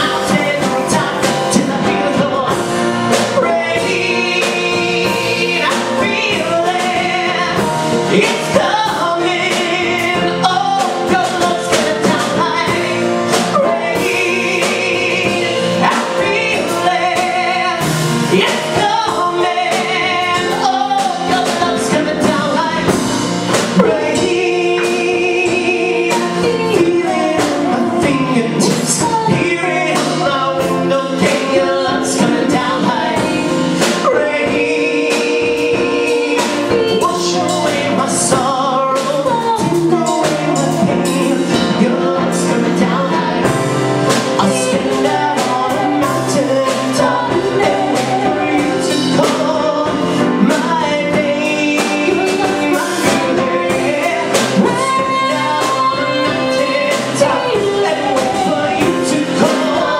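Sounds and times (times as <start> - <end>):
instrumental accompaniment with beat: 0.0 - 59.9
man and woman singing duet: 0.0 - 59.9.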